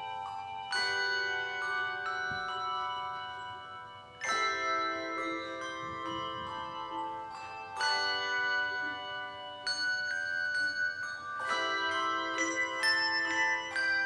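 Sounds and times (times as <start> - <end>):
handbell choir playing: 0.0 - 14.0.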